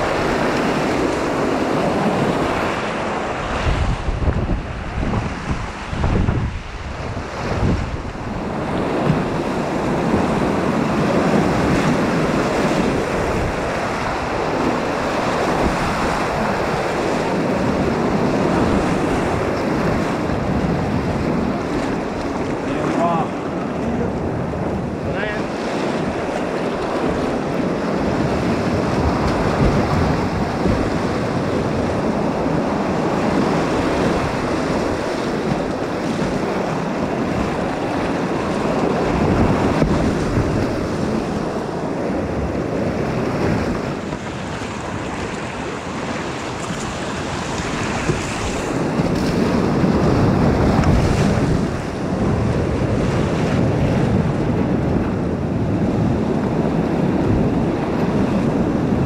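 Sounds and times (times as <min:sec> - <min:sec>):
whitewater rushing and splashing: 0:00.0 - 0:59.0
wind buffeting microphone: 0:00.0 - 0:59.0.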